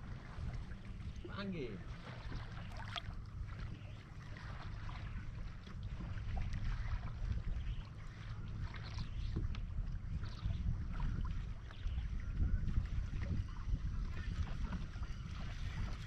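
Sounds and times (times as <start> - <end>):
water lapping against boat hull: 0.0 - 16.0
wind rumble on microphone: 0.0 - 16.0.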